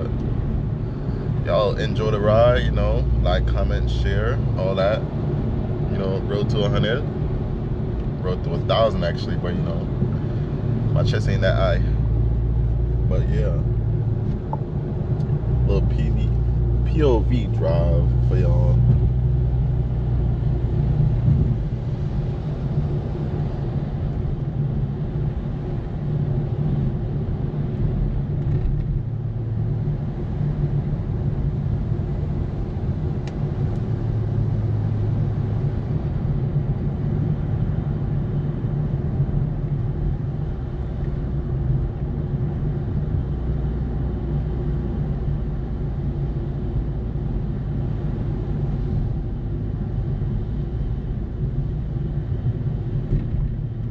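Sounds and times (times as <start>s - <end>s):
car engine drone: 0.0s - 53.9s
road noise: 0.0s - 53.9s.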